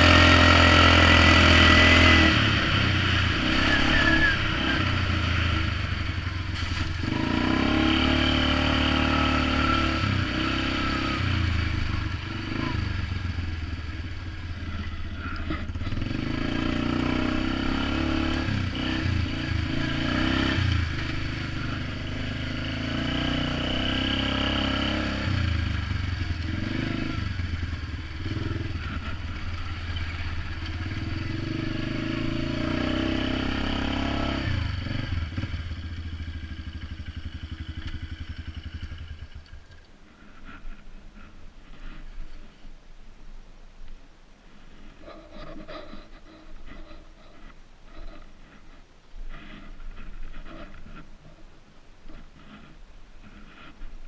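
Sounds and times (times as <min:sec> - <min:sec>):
atv engine running: 0:00.0 - 0:42.6, 0:44.7 - 0:54.0.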